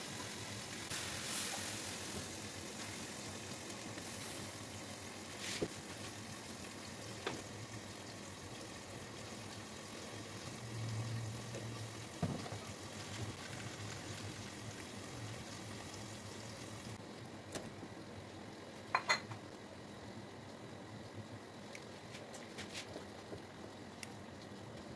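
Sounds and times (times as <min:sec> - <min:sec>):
sauce bubbling in frying pan: 0:00.0 - 0:24.9.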